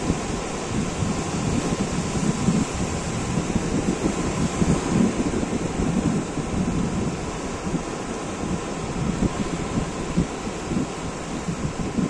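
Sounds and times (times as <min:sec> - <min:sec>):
sea waves breaking on beach: 0:00.0 - 0:12.0
wind buffeting microphone: 0:00.0 - 0:12.0.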